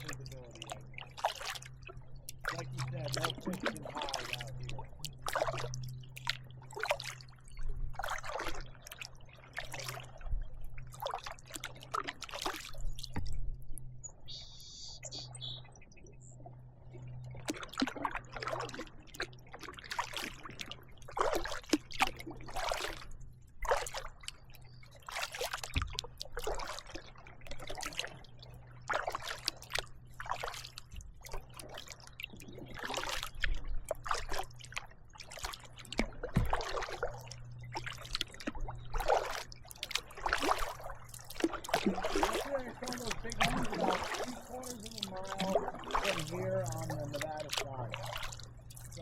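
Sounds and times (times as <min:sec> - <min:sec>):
water trickling off paddle: 0:00.0 - 0:14.4, 0:15.0 - 0:49.0
kayak paddle splashing: 0:00.0 - 0:15.6, 0:16.4 - 0:49.0.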